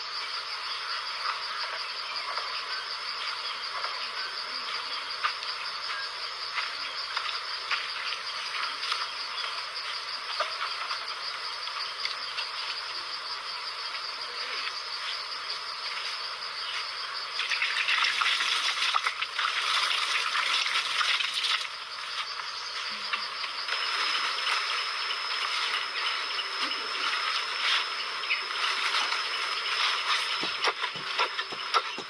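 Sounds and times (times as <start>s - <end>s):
insect chorus drone: 0.0s - 32.0s.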